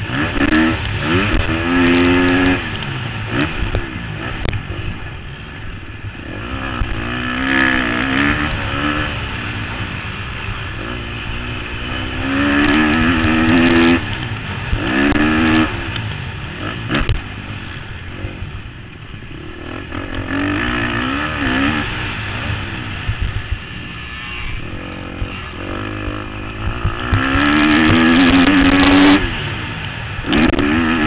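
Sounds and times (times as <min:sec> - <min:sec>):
motocross engine revving: 0:00.0 - 0:05.2, 0:06.1 - 0:31.0.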